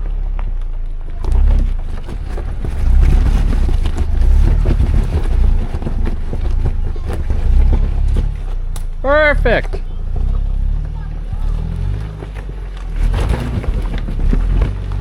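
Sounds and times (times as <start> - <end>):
engine deep rumble: 0.0 - 15.0.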